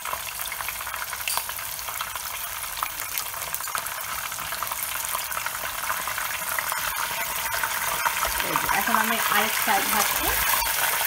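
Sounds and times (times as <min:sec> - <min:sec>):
hot oil sizzling and popping: 0:00.0 - 0:11.0.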